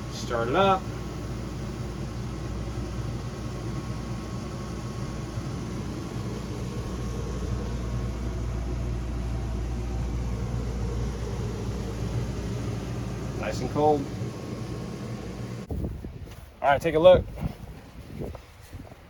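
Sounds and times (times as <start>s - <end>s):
air conditioner humming: 0.0s - 17.3s.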